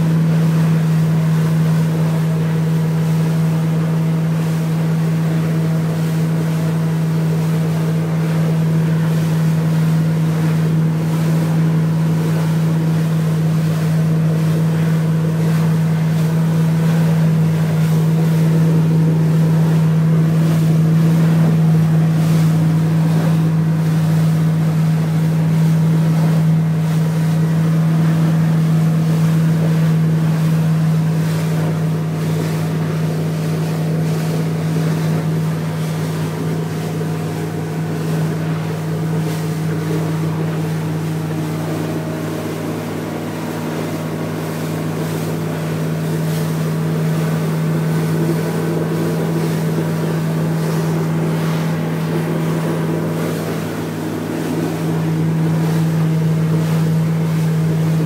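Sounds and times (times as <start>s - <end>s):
outboard engine drone: 0.0s - 58.0s
water rushing past hull: 0.0s - 58.0s.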